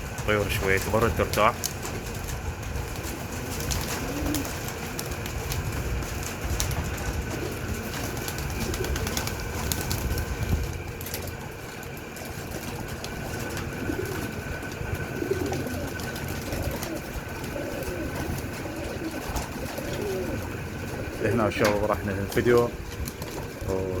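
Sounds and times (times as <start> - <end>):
low background rumble: 0.0 - 24.0
pigeons cooing: 0.0 - 24.0.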